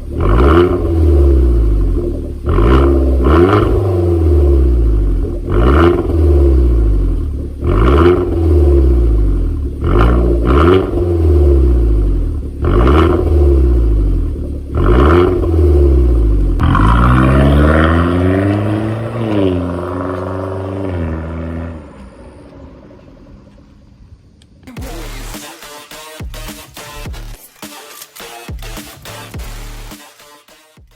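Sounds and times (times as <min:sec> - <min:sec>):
car engine idling: 0:00.0 - 0:25.5
car engine revving: 0:00.0 - 0:27.4, 0:28.5 - 0:30.6.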